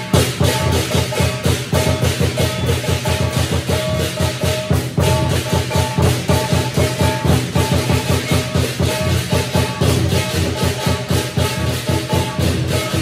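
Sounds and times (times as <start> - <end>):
instrumental music with percussion beat: 0.0 - 13.0.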